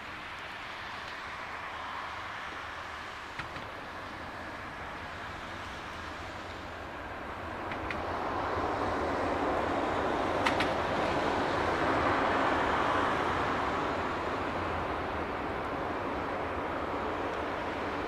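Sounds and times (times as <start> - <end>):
jet airliner engine rushing: 0.0 - 18.0.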